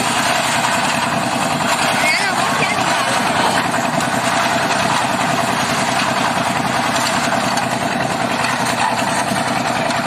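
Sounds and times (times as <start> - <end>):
concrete mixer engine running: 0.0 - 10.0.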